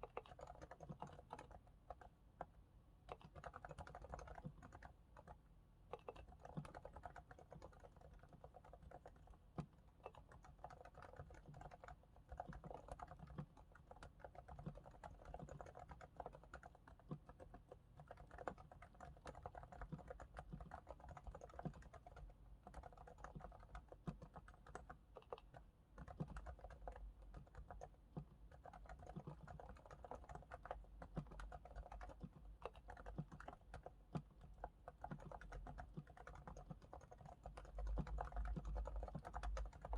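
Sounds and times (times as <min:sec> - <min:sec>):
muffled keyboard typing clicks: 0:00.0 - 0:39.9.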